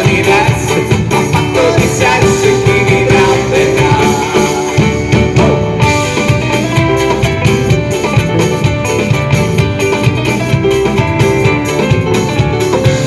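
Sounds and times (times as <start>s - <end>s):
guitar: 0.0s - 13.0s
live band playing: 0.0s - 13.0s
steady drum beat: 0.0s - 13.0s.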